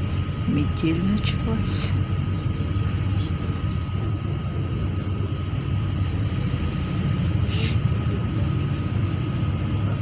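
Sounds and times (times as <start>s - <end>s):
car driving rumble: 0.0s - 10.0s
thin steady whine: 0.0s - 10.0s.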